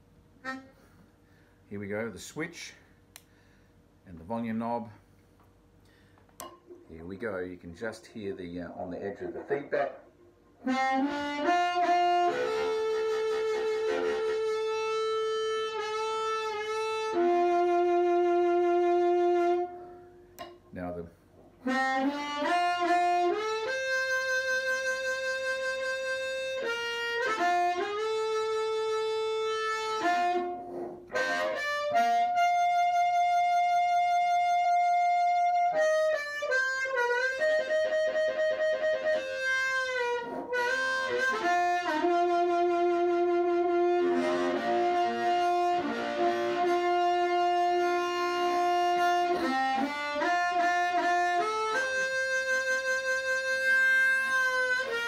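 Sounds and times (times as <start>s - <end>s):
amplified harmonica tune: 0.0s - 1.6s, 10.6s - 20.3s, 21.6s - 55.0s.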